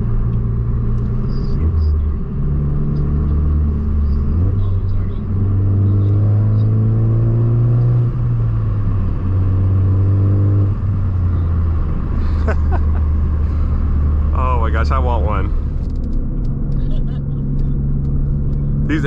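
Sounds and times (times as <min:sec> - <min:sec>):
car exhaust under acceleration: 0:00.0 - 0:19.0.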